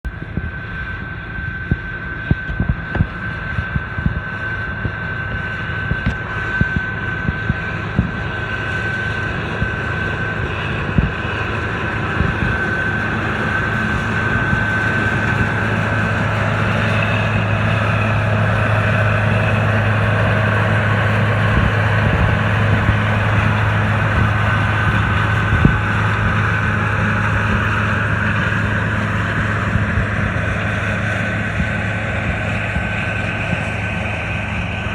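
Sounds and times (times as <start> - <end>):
combine engine drone: 0.0 - 34.9
high whine: 0.1 - 34.9.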